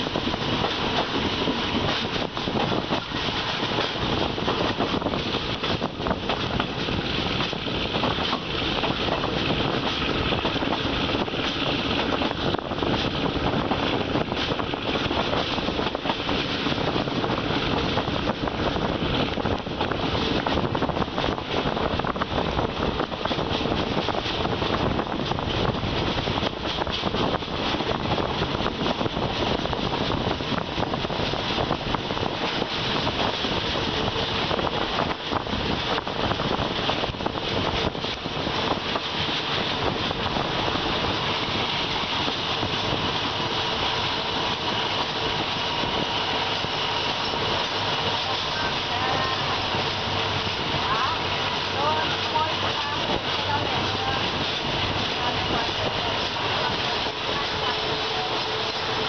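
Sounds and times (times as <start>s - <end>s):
train wheels on track: 0.0s - 59.0s
wind rushing: 0.0s - 59.0s.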